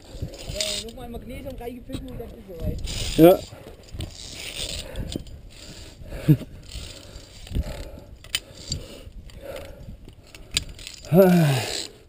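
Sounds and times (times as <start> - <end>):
carabiners clicking on steel cable: 0.0 - 12.0.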